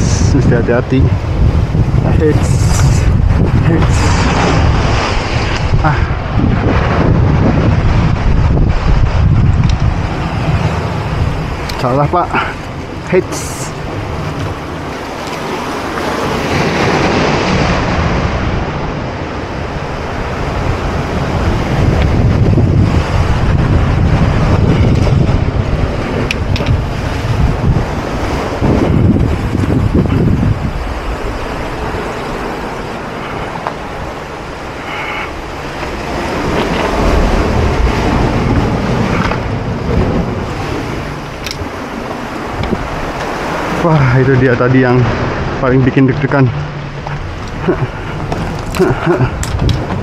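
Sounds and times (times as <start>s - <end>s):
waves breaking on rocks: 0.0s - 50.0s
wind on microphone: 0.0s - 50.0s.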